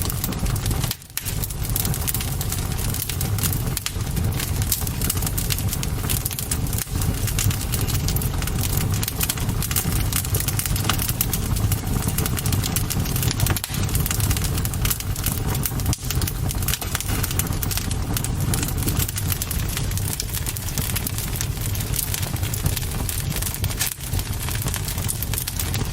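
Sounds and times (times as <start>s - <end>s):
campfire crackling: 0.0s - 25.9s
low fire rumble: 0.0s - 25.9s.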